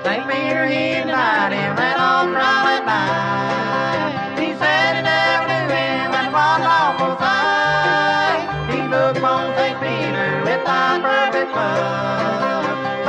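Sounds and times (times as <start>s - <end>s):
bluegrass string band playing: 0.0s - 13.0s
sliding fiddle line: 0.0s - 13.0s
upright bass line: 0.0s - 13.0s.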